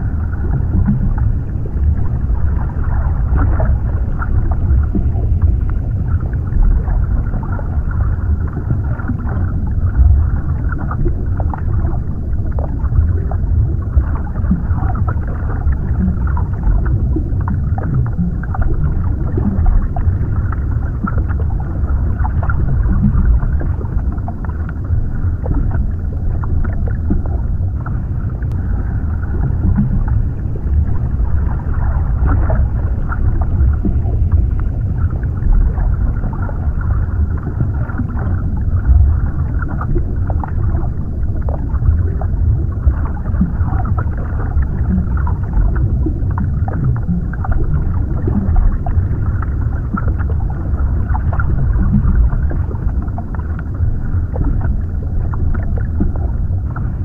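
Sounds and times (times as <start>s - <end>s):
deep underwater rumble: 0.0s - 57.0s
water bubbling and gurgling: 0.0s - 57.0s.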